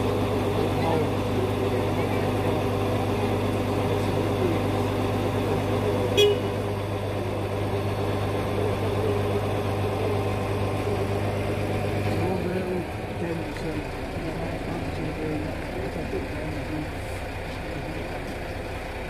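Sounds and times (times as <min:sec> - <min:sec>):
lorry engine humming: 0:00.0 - 0:19.0.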